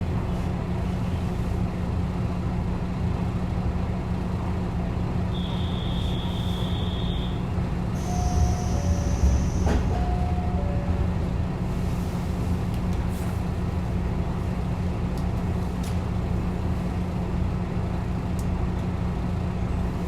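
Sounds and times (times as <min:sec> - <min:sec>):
railcar engine humming: 0:00.0 - 0:20.0.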